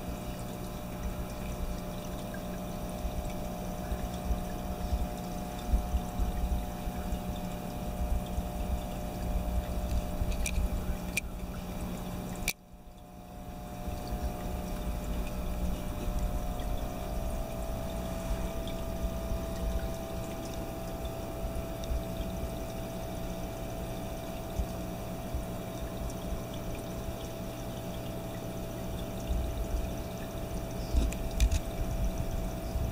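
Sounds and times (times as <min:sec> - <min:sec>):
aquarium filter bubbling water: 0:00.0 - 0:32.9
steady low hum: 0:00.0 - 0:32.9.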